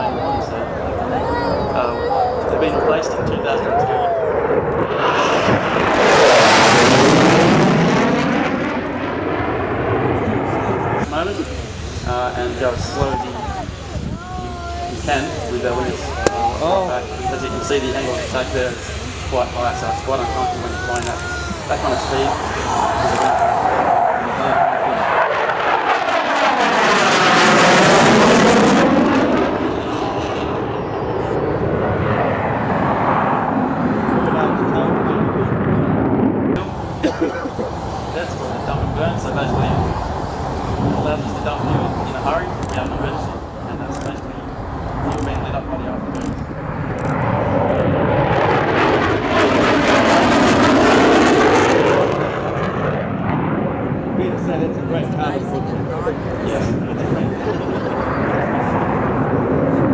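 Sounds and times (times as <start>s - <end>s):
jet passing low overhead: 0.0s - 59.9s.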